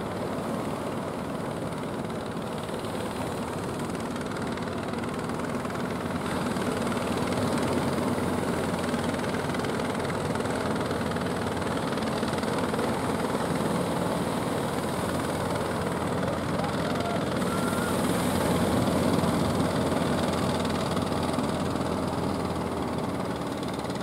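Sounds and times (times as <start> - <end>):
boat engine running: 0.0 - 24.0
surf: 2.7 - 24.0.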